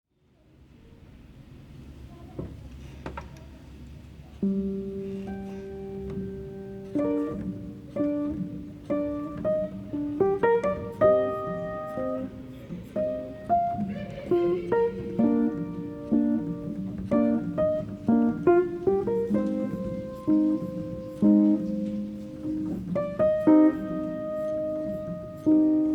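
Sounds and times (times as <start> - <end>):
piano: 3.7 - 25.9.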